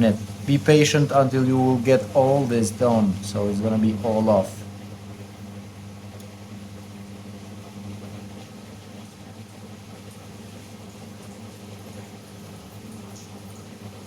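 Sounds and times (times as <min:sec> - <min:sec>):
low hum of small motor: 0:00.0 - 0:14.0.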